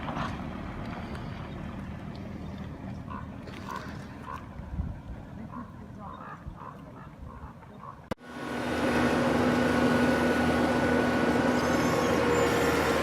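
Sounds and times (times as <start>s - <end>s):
car driving on rough road: 0.0s - 5.9s, 6.9s - 13.0s.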